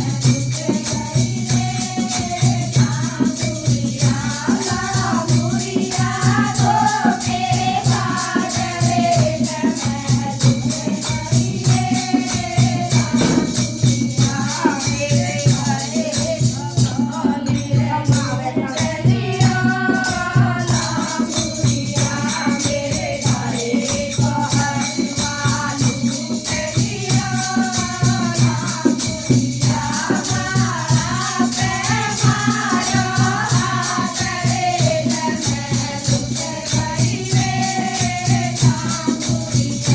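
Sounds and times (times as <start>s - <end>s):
jingling percussion beat: 0.0s - 39.9s
person singing devotional song: 0.0s - 39.9s.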